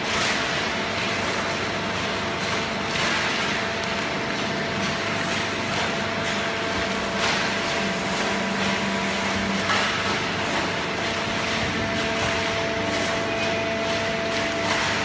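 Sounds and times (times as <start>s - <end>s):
machine clanks and rattles: 0.0s - 15.0s
steady machine hum: 0.0s - 15.0s.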